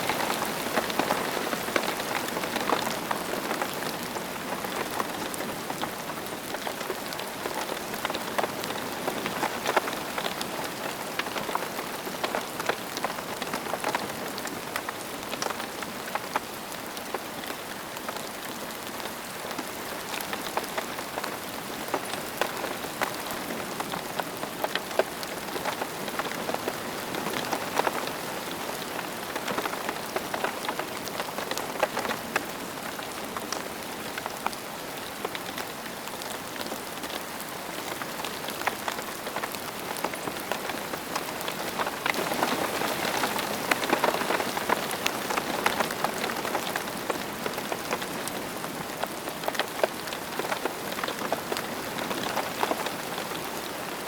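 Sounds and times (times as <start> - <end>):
raindrops tapping close by: 0.0 - 54.0
steady rain falling: 0.0 - 54.0.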